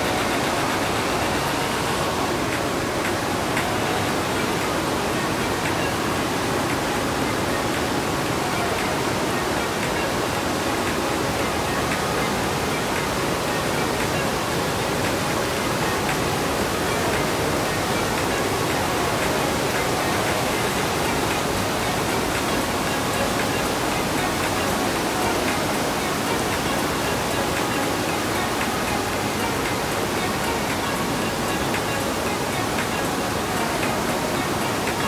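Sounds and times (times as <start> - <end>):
river water rushing through gorge: 0.0 - 35.0.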